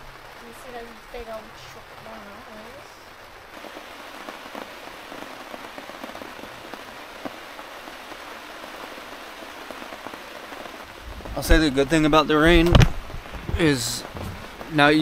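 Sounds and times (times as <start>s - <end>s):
raindrops tapping on tent: 0.0s - 15.0s
steady rain falling: 0.0s - 15.0s.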